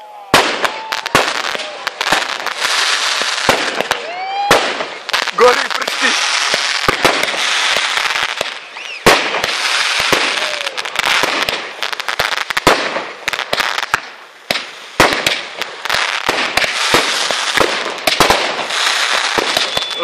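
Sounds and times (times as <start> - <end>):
fireworks bangs: 0.0 - 20.0
fireworks crackling hiss: 0.0 - 20.0.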